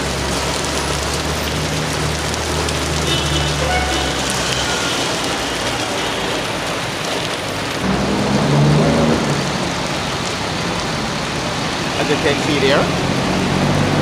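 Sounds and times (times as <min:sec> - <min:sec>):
rain falling: 0:00.0 - 0:14.0
water splashing off a bridge: 0:00.0 - 0:14.0.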